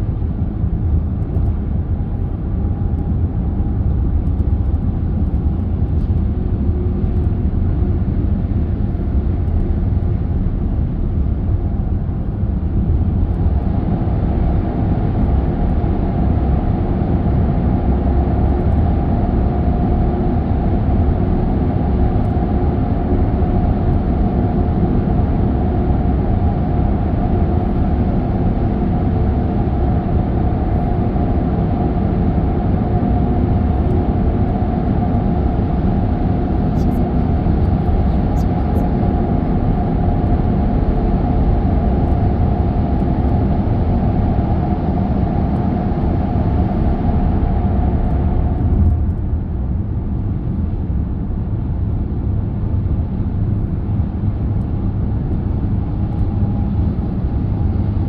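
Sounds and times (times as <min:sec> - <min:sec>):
car tyres and engine rumble: 0:00.0 - 0:58.0.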